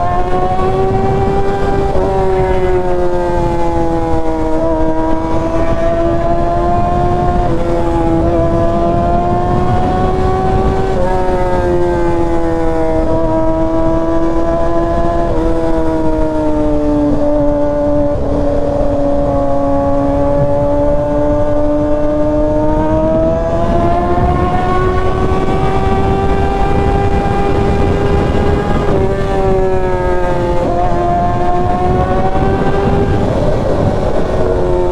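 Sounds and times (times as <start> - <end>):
motorcycle engine at high revs: 0.0 - 34.9.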